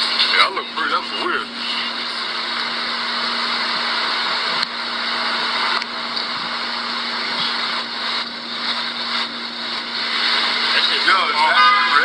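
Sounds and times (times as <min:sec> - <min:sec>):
loud steady hiss: 0:00.0 - 0:12.0
low hum: 0:00.0 - 0:12.0.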